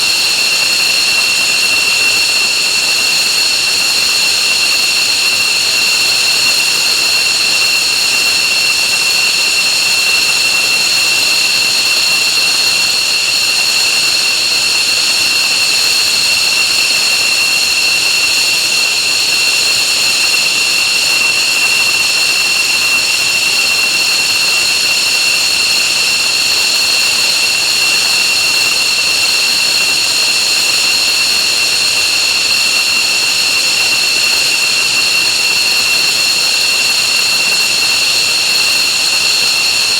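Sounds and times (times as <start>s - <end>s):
jet engines high-pitched whine: 0.0s - 39.9s.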